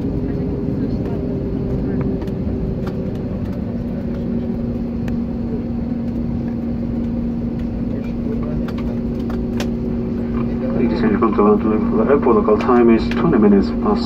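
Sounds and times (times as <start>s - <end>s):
airplane cabin rolling rumble: 0.0s - 14.0s
steady low drone: 0.0s - 14.0s.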